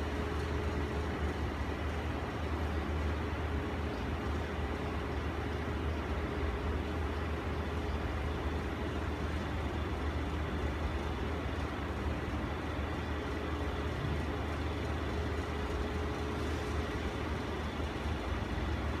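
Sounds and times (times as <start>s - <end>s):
air conditioner running: 0.0s - 19.0s
faint steady tone: 0.0s - 19.0s.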